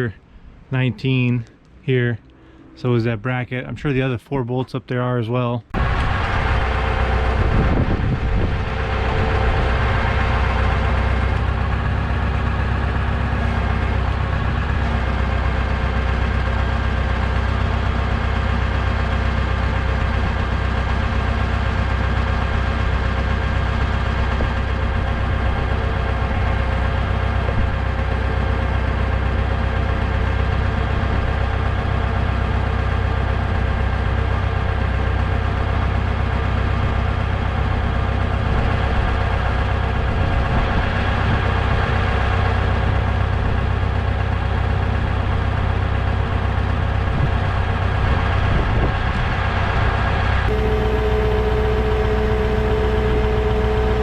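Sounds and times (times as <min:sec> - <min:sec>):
engine idling: 0:05.8 - 0:54.0.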